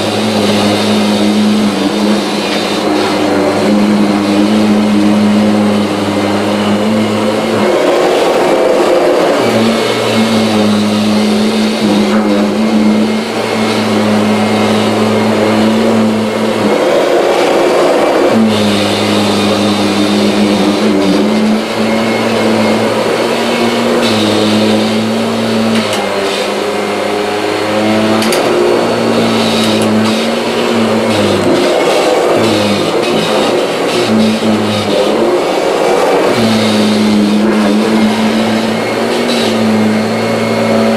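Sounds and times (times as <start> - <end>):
vacuum cleaner motor hum: 0.0 - 40.9.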